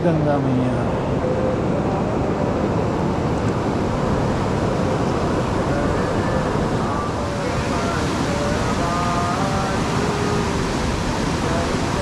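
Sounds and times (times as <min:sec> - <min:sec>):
river rushing over boulders: 0:00.0 - 0:12.0.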